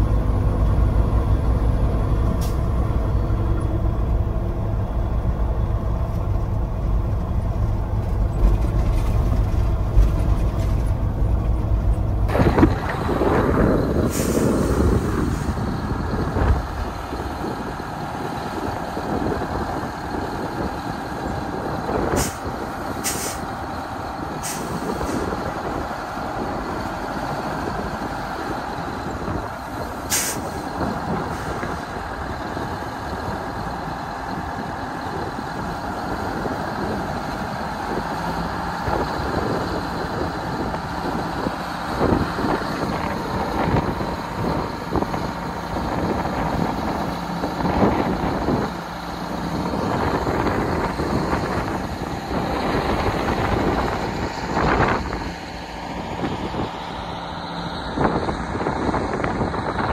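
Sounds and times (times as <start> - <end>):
diesel truck engine idling: 0.0 - 59.9
wind buffeting microphone: 0.0 - 59.9.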